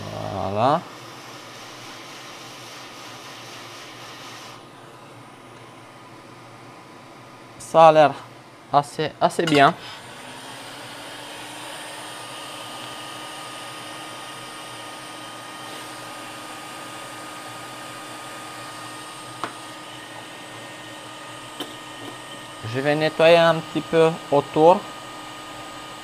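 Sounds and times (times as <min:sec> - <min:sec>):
hot-air station hissing: 0:00.0 - 0:26.0.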